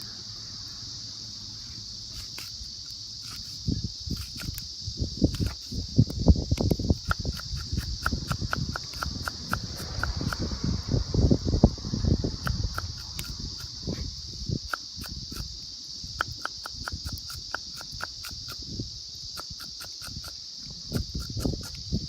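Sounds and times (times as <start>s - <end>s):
insects singing: 0.0s - 22.0s.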